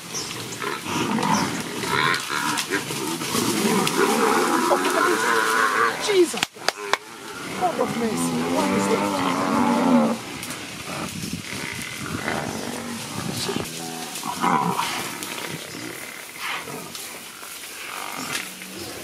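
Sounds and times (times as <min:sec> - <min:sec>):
lionesses growling and snarling: 0:00.0 - 0:19.0.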